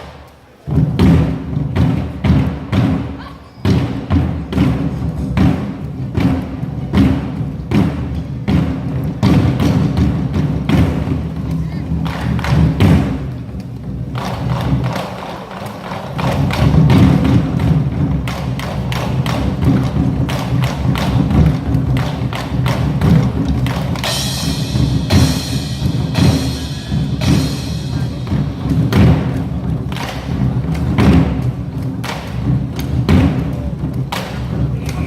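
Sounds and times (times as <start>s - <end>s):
drums struck in driving rhythm: 0.0s - 35.0s
music: 0.0s - 35.0s.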